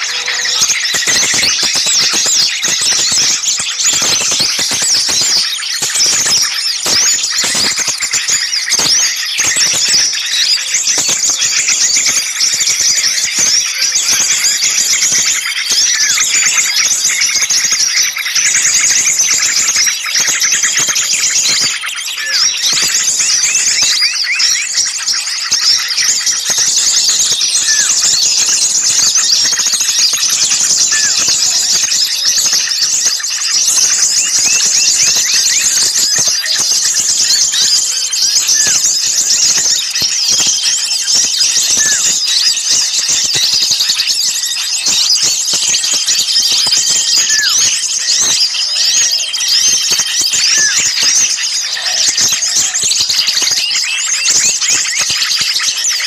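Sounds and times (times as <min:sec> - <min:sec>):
songbirds chirping and twittering: 0:00.0 - 0:56.0.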